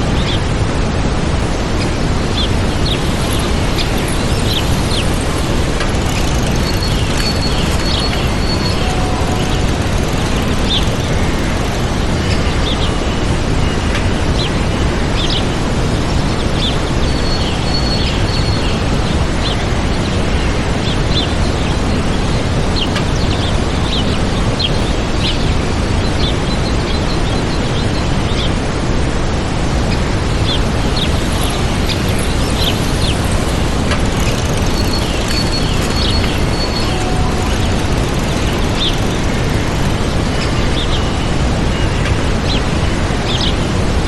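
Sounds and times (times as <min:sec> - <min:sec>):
waterfall rushing: 0:00.0 - 0:44.0
small birds chirping: 0:01.4 - 0:29.1, 0:29.8 - 0:43.7.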